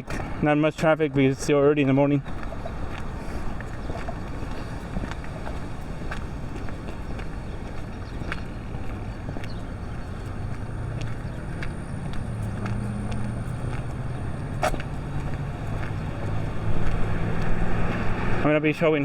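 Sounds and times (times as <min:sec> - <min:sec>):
road traffic rumble: 0:00.0 - 0:19.0
vehicle engine hum: 0:02.1 - 0:18.7.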